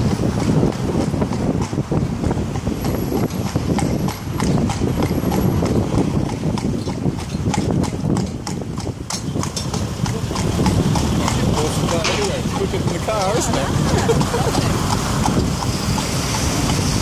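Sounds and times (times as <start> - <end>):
carriage low rumble: 0.0 - 17.0
hooves clip-clopping on pavement: 0.0 - 17.0.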